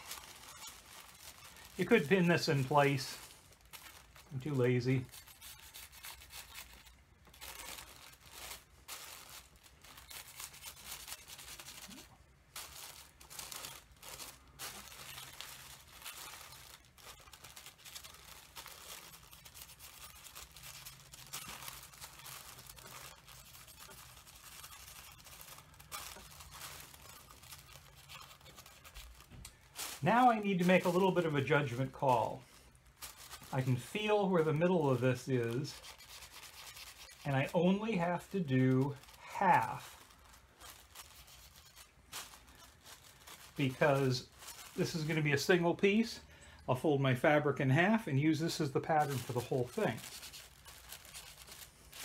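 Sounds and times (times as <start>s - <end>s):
paper crinkling: 0.0s - 52.0s.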